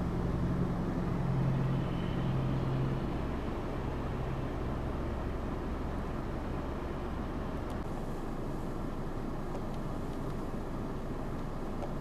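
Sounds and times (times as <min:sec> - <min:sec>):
low rumble of vehicles: 0:00.0 - 0:12.0.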